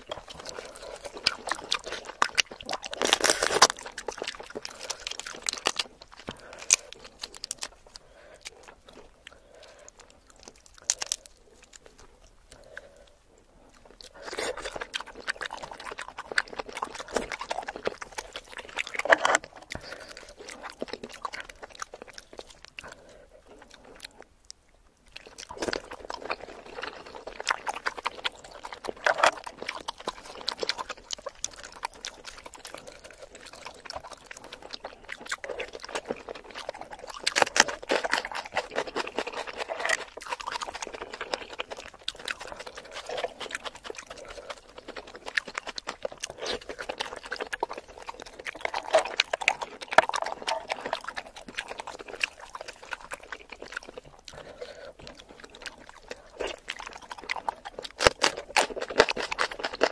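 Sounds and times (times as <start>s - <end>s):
wet chewing sounds: 0.0s - 59.9s.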